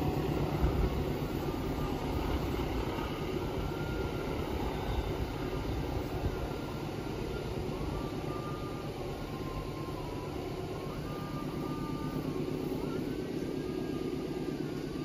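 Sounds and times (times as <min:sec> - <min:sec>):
faint thin wavering tones: 0:00.0 - 0:15.0
train rumble: 0:00.0 - 0:15.0.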